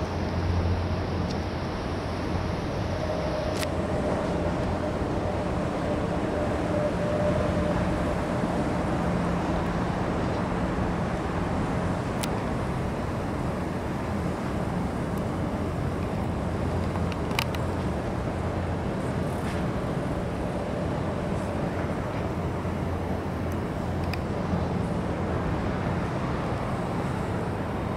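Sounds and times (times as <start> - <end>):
low engine drone: 0.0 - 27.9.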